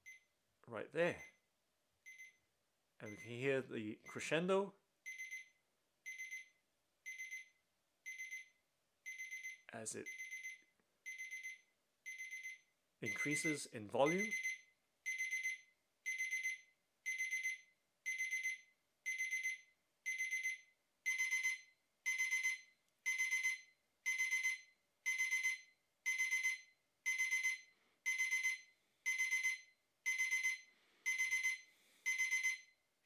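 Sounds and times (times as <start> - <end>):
alarm clock rapid beeps: 2.1 - 2.4, 3.0 - 3.4, 5.0 - 32.8.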